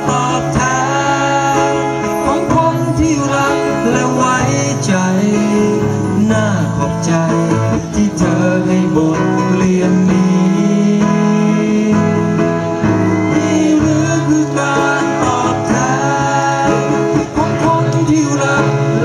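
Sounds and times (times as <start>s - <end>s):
acoustic guitar: 0.0s - 19.0s
man singing into a microphone: 0.0s - 19.0s.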